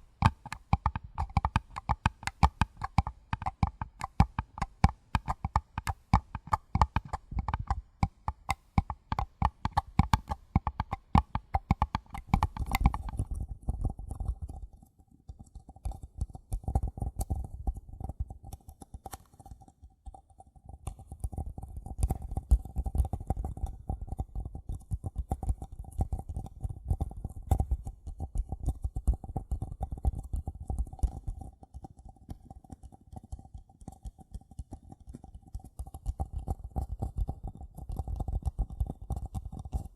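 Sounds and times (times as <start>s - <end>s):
fingers tapping paper cups: 0.0s - 39.9s.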